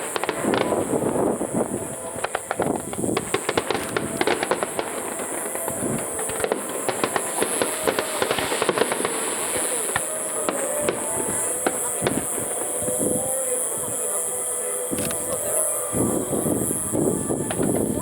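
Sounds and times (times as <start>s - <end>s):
fireworks crackling and popping: 0.0s - 18.0s.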